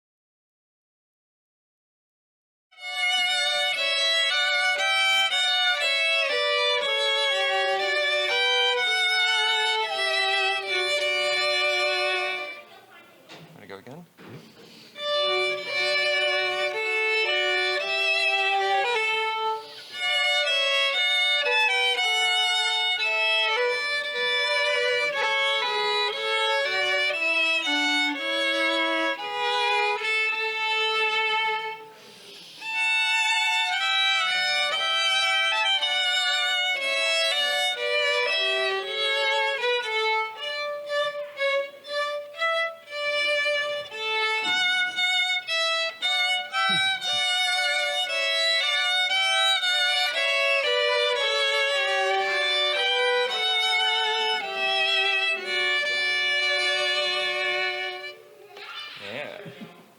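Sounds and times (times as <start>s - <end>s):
melody of held notes with vibrato: 2.8s - 12.7s, 15.0s - 32.0s, 32.8s - 58.6s.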